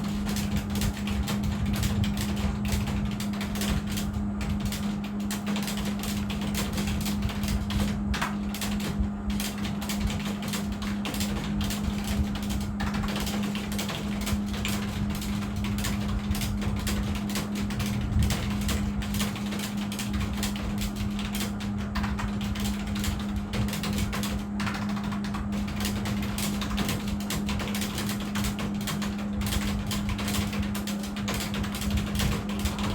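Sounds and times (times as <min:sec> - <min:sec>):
keyboard typing: 0:00.0 - 0:32.9
steady low hum: 0:00.0 - 0:32.9.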